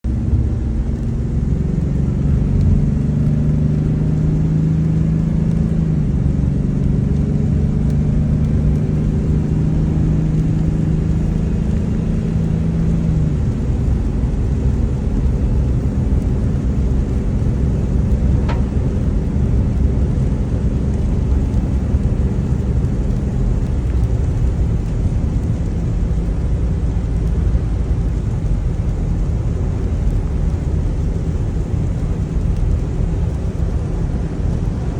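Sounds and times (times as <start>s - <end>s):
car engine rumble: 0.0s - 34.9s
engine hum: 0.0s - 34.9s
road noise: 0.0s - 34.9s.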